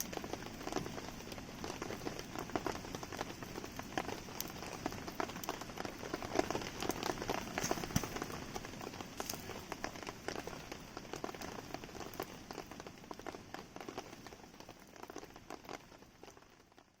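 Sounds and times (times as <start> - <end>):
campfire crackling: 0.0 - 17.0
rain falling: 0.0 - 17.0.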